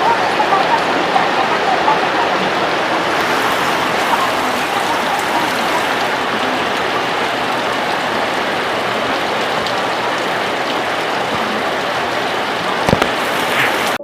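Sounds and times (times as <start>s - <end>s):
rain pattering on surfaces: 0.0s - 14.0s.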